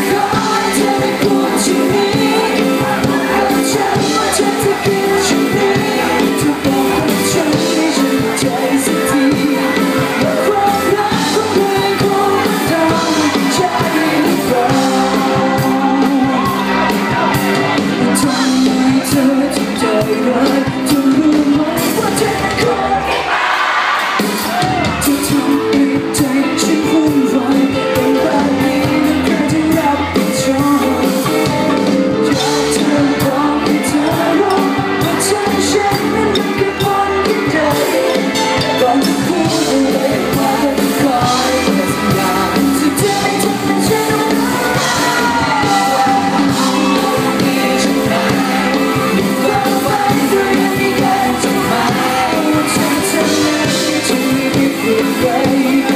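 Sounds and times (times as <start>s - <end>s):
person singing: 0.0s - 23.3s, 24.2s - 55.9s
live rock band with electric guitars: 0.0s - 55.9s.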